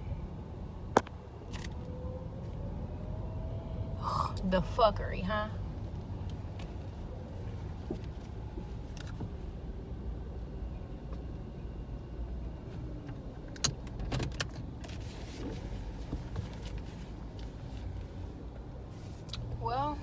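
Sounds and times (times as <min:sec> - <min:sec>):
car rumble from inside cabin: 0:00.0 - 0:20.0.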